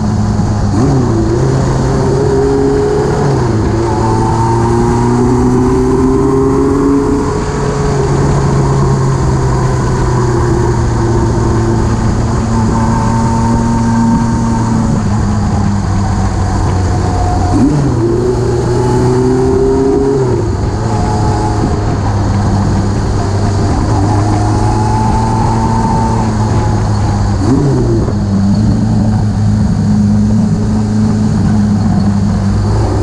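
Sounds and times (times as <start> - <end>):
motorcycle engine running: 0.0 - 33.0
wind rushing past microphone: 0.0 - 33.0.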